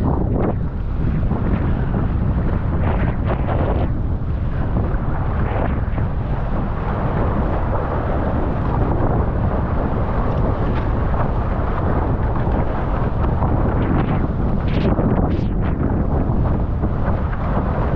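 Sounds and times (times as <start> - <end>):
water rushing: 0.0 - 17.9
wind buffeting microphone: 0.0 - 17.9.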